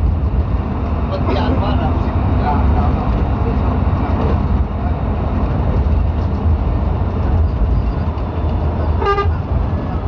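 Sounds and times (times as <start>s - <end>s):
vehicle engine and tyre rumble: 0.0s - 10.0s.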